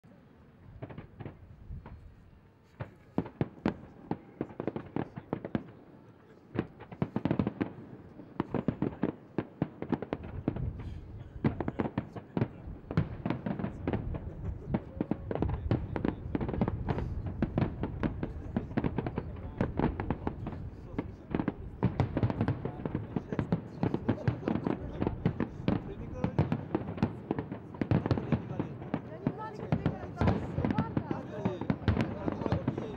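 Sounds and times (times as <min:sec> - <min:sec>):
fireworks bursts and crackling bangs: 0:00.4 - 0:32.9.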